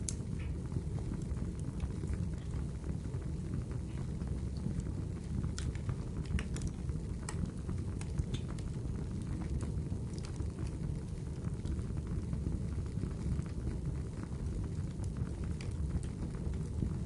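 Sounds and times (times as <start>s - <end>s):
low rumble of flame: 0.0s - 17.0s
wood fire crackling and popping: 0.0s - 17.0s.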